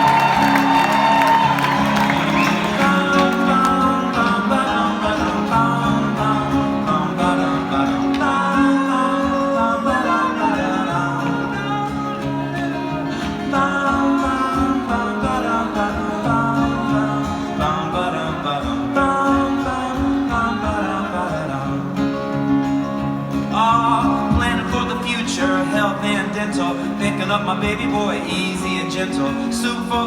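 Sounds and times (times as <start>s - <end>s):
acoustic guitar: 0.0s - 30.0s.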